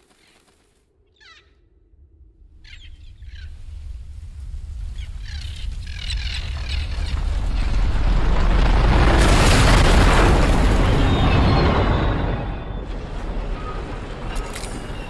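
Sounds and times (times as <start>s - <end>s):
deep cinematic rumble: 1.8s - 15.0s.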